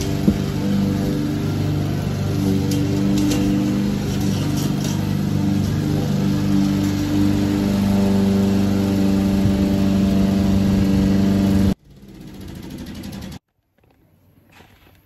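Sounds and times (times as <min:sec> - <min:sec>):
lawn mower engine running: 0:00.0 - 0:13.4.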